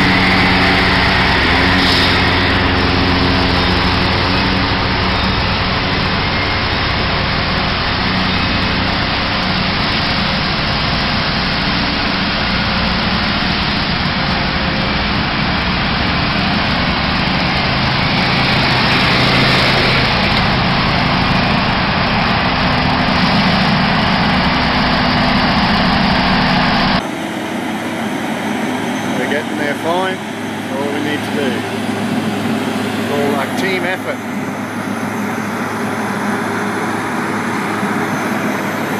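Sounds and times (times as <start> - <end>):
heavy diesel engines running: 0.0 - 38.9
tyre and road noise: 0.0 - 38.9.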